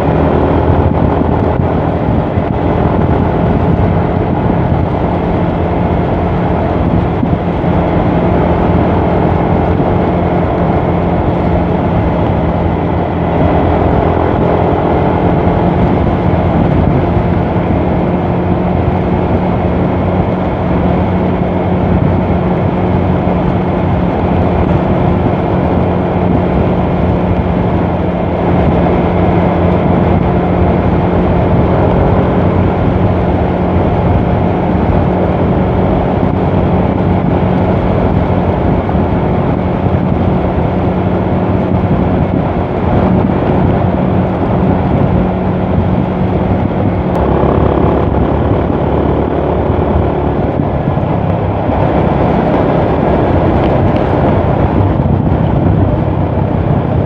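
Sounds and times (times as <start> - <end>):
motorcycle engine at steady revs: 0.0 - 57.0
wind rush: 0.0 - 57.0.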